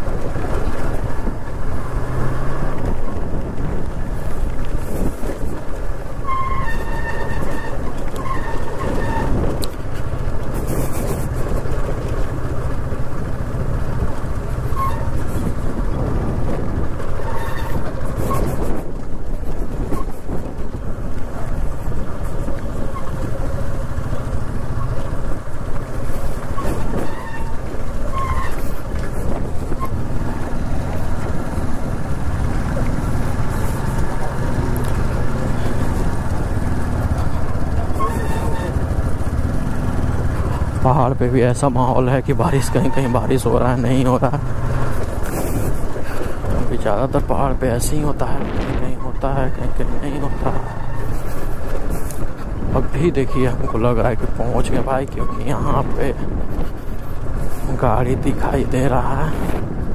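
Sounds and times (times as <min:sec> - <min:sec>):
motorcycle engine running: 0:00.0 - 0:53.1
road rumble: 0:00.0 - 0:59.9.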